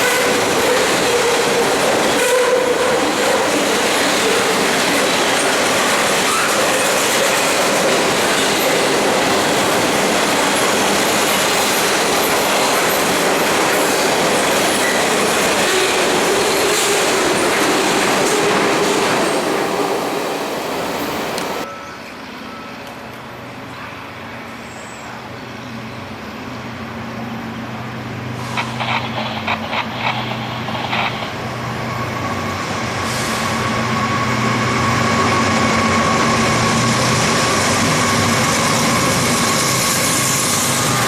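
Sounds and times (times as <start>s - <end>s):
freight train wheels on rail: 0.0s - 21.7s, 26.3s - 41.0s.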